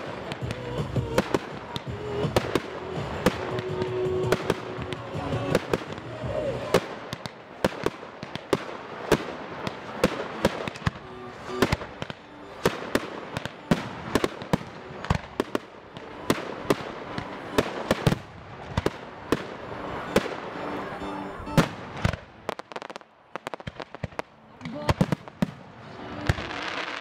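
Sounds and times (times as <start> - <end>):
crackling hiss: 0.0 - 27.0
fireworks bursting with sharp bangs: 0.0 - 27.0.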